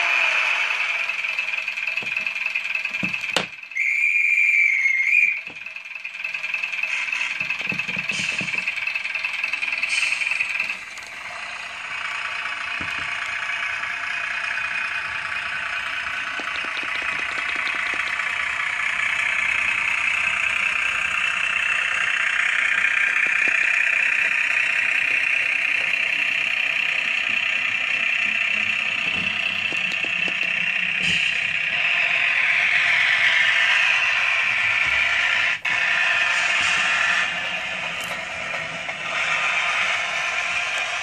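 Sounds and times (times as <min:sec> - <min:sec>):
diesel railbus engine through small speaker: 0:00.0 - 0:41.0.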